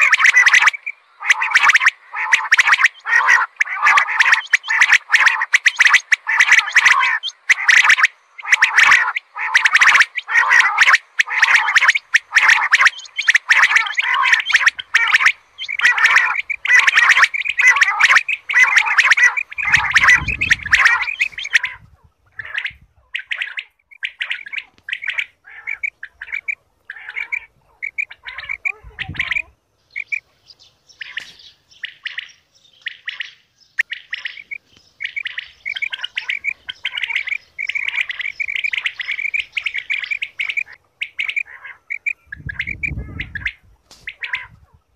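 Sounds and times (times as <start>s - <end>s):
quail chirping calls: 0.0s - 44.9s.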